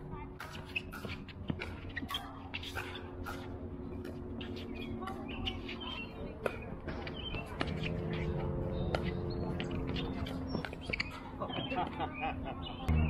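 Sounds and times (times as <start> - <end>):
birds chirping: 0.5 - 13.0.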